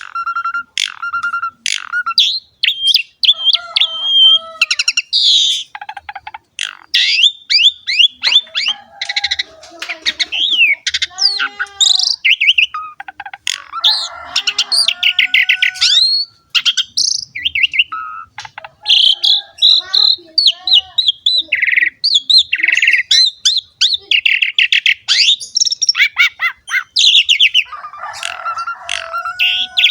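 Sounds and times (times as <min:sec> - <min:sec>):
harsh bird chatter: 0:00.0 - 0:29.9
starling singing: 0:00.0 - 0:29.9.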